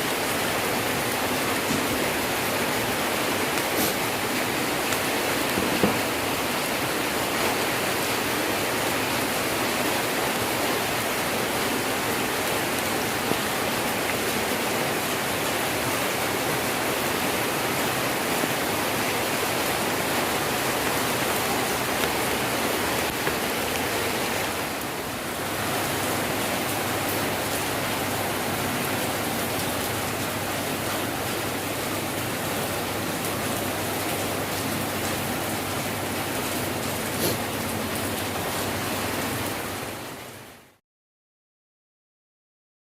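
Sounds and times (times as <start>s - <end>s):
heavy rain falling: 0.0s - 40.8s.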